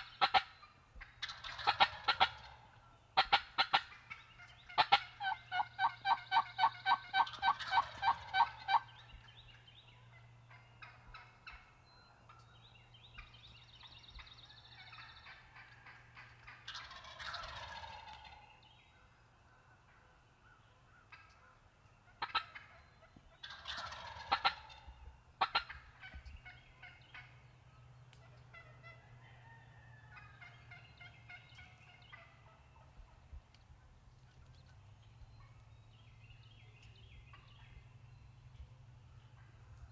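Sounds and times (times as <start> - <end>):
wild turkeys gobbling: 0.0 - 39.9.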